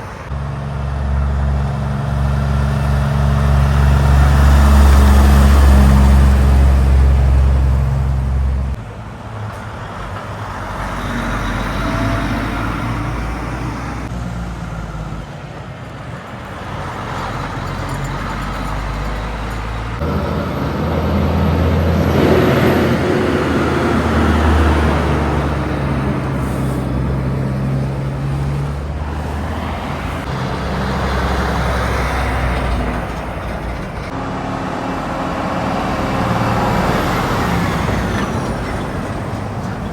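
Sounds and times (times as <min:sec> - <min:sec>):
diesel engines droning: 0:00.0 - 0:39.9
trucks and traffic passing: 0:00.0 - 0:39.9.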